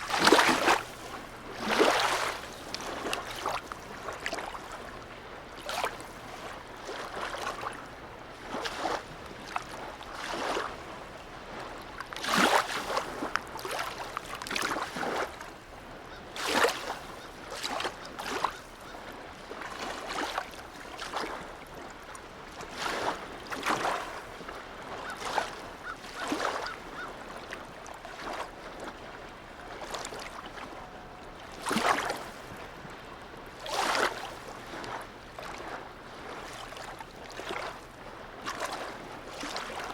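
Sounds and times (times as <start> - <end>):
harbour waves lapping and splashing: 0.0 - 39.9.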